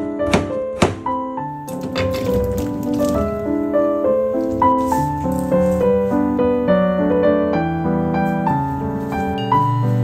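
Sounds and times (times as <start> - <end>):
piano melody: 0.0 - 10.0.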